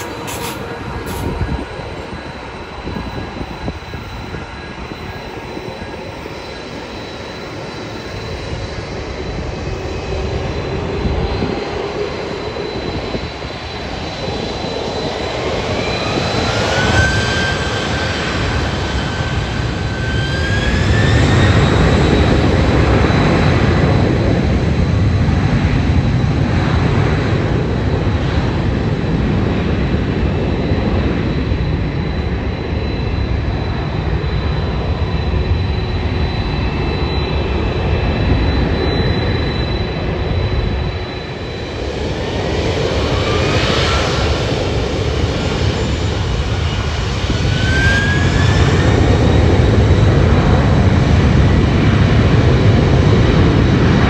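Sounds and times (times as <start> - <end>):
jet engines spooling up: 0.0 - 27.4, 29.5 - 54.0.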